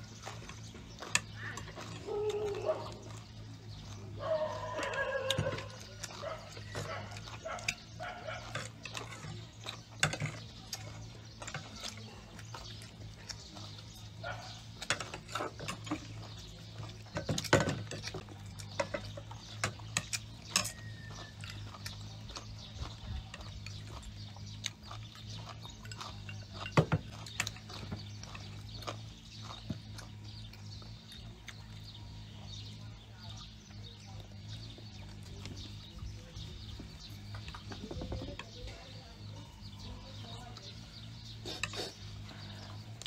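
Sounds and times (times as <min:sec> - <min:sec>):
person chewing food: 0:00.0 - 0:32.8, 0:40.2 - 0:43.0.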